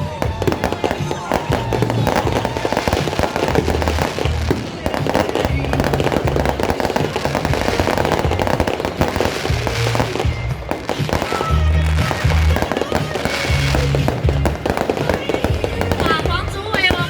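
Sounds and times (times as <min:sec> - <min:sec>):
fireworks bursting and crackling: 0:00.0 - 0:17.0
music with heavy bass beat: 0:00.0 - 0:17.0.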